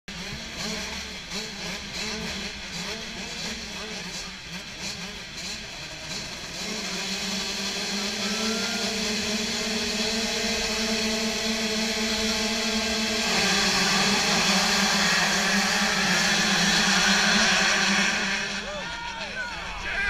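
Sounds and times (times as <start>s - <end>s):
motocross bikes revving: 0.1s - 20.0s.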